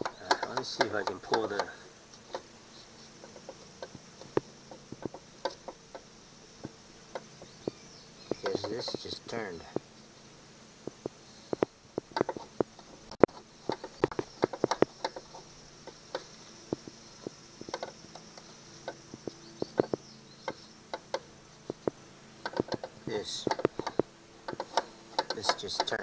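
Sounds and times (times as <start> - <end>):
sharp clicks and metal taps: 0.0 - 2.5, 3.2 - 9.1, 10.9 - 17.0, 17.6 - 26.0.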